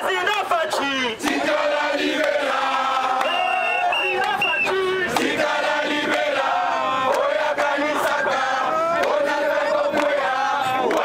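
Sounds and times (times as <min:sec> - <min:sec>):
crowd chanting: 0:00.0 - 0:11.0.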